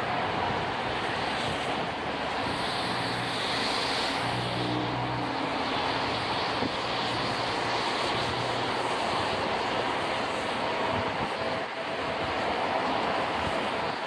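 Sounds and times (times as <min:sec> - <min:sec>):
electric train passing on rails: 0:00.0 - 0:14.0.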